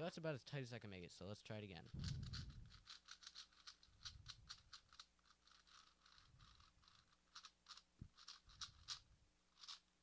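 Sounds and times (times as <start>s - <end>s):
puzzle cube plastic clicks: 1.8s - 10.0s.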